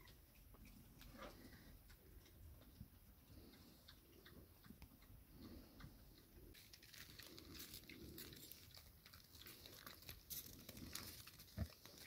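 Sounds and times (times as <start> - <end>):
pigs chewing feed: 0.0 - 12.0.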